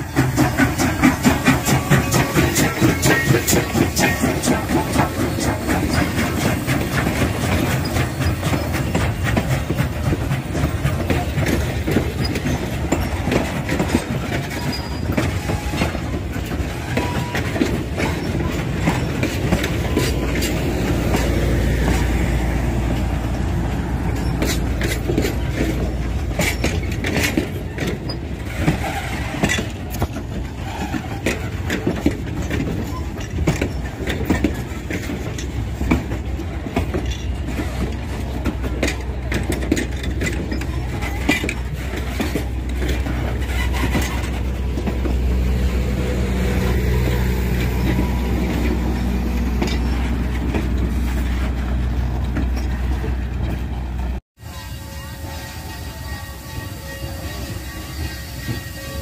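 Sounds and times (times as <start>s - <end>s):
steam train rumbling past: 0.0s - 59.0s
wheels clanking over rail joints: 0.0s - 59.0s.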